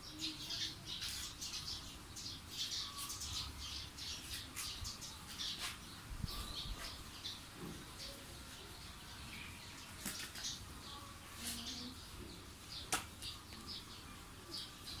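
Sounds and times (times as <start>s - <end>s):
birds chirping and squawking: 0.0s - 15.0s.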